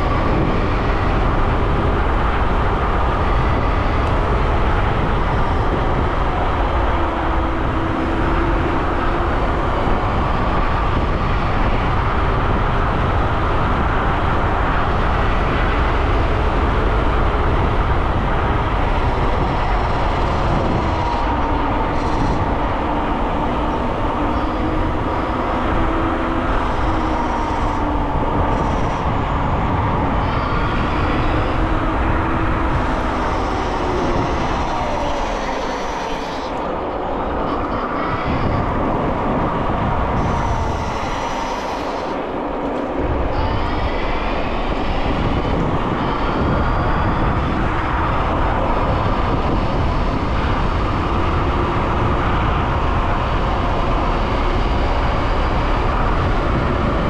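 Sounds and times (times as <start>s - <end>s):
electric motor whine: 0.0s - 57.0s
wind rush on microphone: 0.0s - 57.0s.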